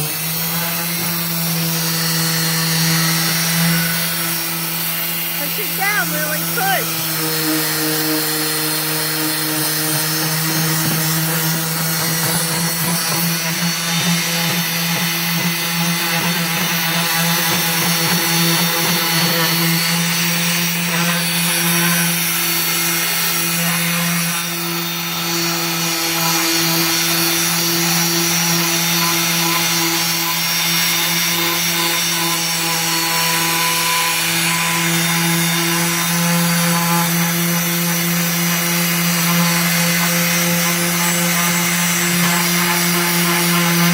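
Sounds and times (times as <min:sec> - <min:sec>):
orbital sander motor hum: 0:00.0 - 0:29.9, 0:33.1 - 0:43.9.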